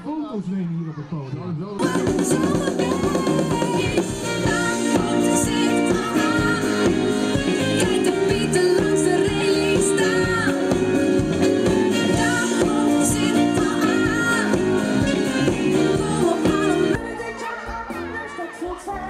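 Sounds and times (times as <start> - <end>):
music with singing over a beat: 1.8 - 19.0.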